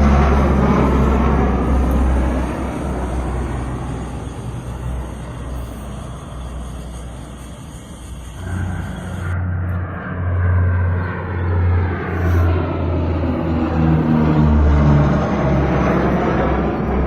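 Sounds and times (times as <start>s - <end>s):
jet aircraft roaring: 0.0s - 17.0s.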